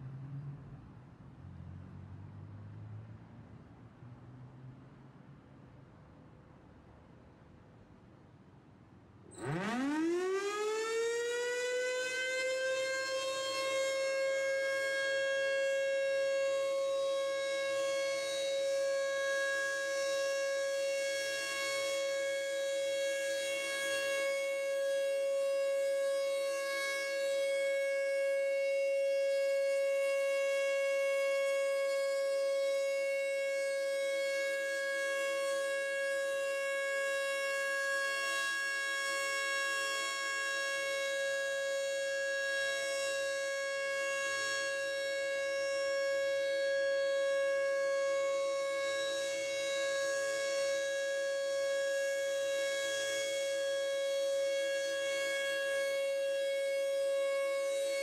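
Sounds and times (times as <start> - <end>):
rotating warning siren: 9.3 - 58.0.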